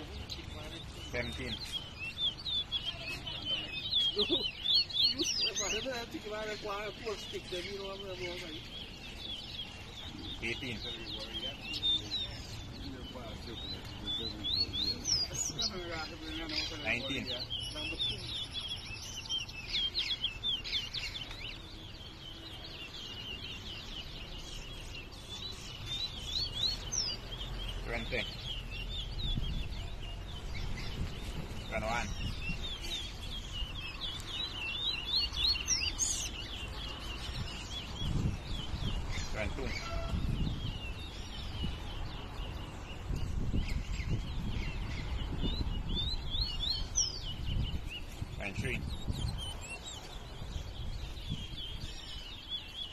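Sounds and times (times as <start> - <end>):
songbirds chirping and whistling: 0.0 - 52.9.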